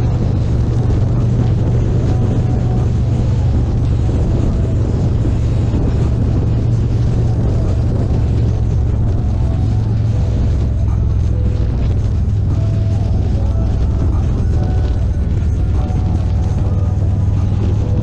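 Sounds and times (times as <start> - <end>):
motorcycle engine running: 0.0 - 18.0
road noise: 0.0 - 18.0
rushing wind: 0.0 - 18.0.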